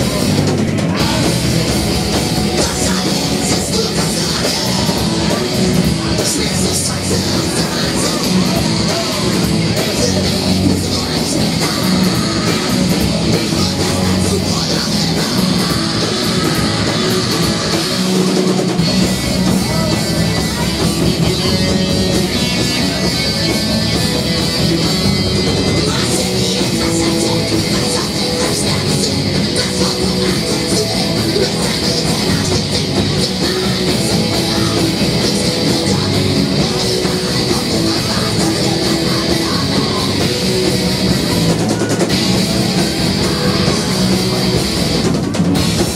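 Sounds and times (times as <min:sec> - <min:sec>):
bass guitar: 0:00.0 - 0:45.9
distorted electric guitar: 0:00.0 - 0:45.9
drums: 0:00.0 - 0:45.9.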